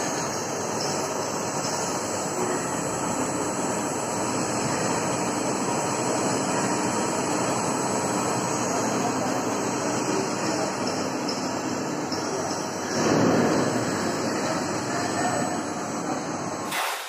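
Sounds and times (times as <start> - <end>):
cnc machine cutting metal: 0.0 - 17.0.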